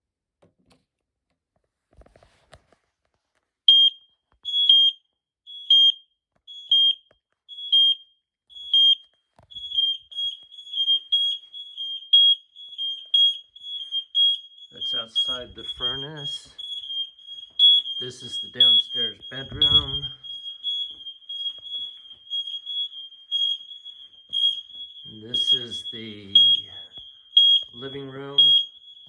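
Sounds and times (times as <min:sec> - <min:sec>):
smoke alarm beeping: 0:03.7 - 0:29.0.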